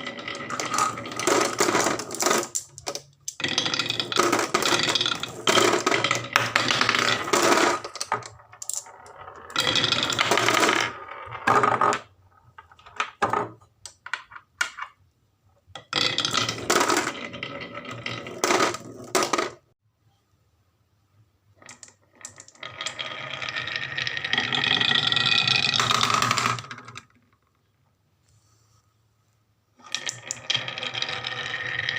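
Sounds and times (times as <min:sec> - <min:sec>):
marbles rolling down wooden run: 0:00.0 - 0:14.8, 0:15.8 - 0:19.6, 0:21.6 - 0:27.5, 0:29.8 - 0:31.9.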